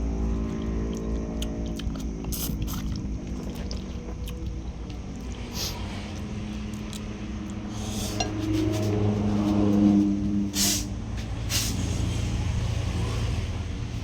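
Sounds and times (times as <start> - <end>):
motor vehicle passing by: 0.0 - 14.0.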